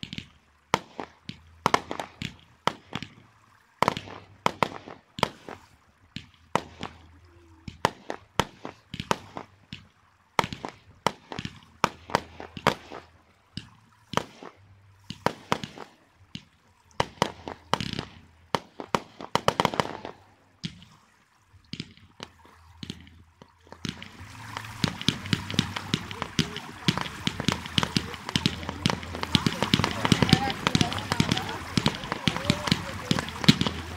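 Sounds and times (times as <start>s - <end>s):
fireworks bangs: 0.0s - 21.0s, 21.7s - 33.9s.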